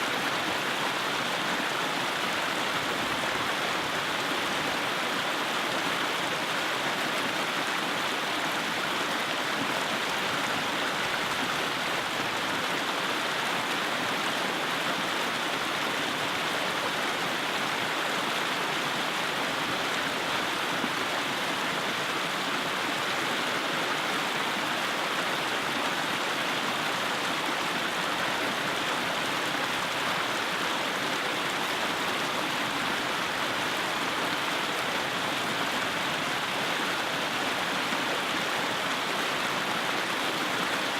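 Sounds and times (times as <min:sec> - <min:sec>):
creek rushing over rocks: 0:00.0 - 0:40.9.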